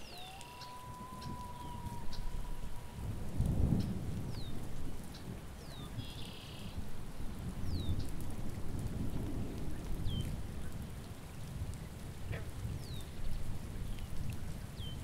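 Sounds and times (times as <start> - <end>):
low thunder rumble: 0.0 - 15.0
steady rain: 0.0 - 15.0.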